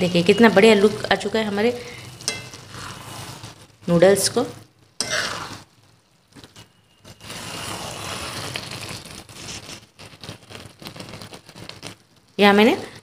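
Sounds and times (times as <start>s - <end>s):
spatula stirring noodles in pan: 0.1s - 12.4s.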